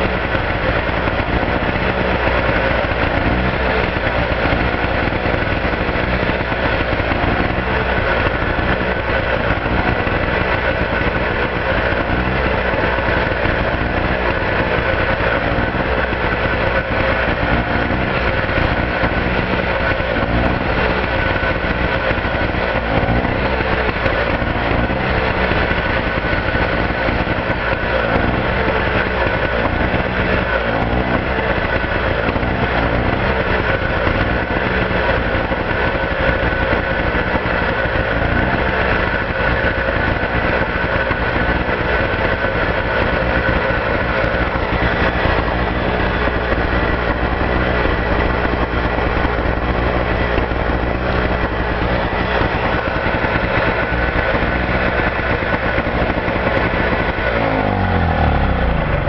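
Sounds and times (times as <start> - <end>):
portable generator running: 0.0 - 59.0.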